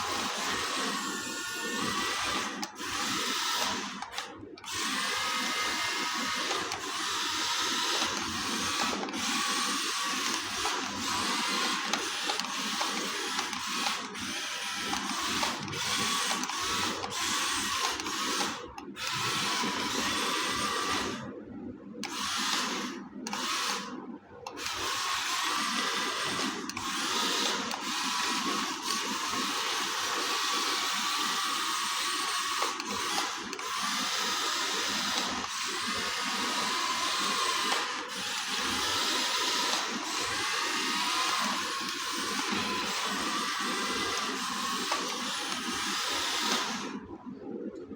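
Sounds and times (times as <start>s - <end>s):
small electric motor whining: 0.0s - 21.4s, 22.0s - 47.1s.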